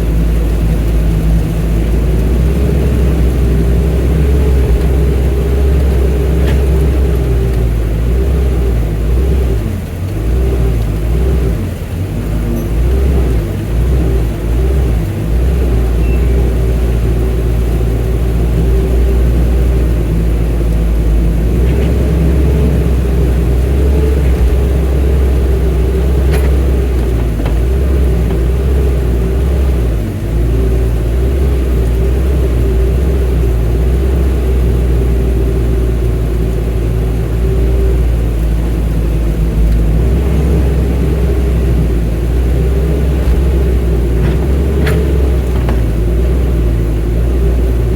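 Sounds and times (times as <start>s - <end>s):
diesel engine rumbling: 0.0s - 47.9s.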